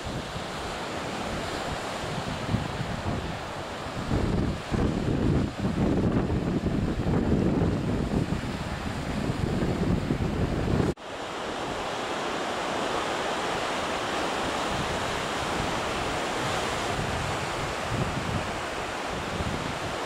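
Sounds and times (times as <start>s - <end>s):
surf breaking on rocks: 0.0s - 20.0s
wind gusting on microphone: 0.0s - 20.0s.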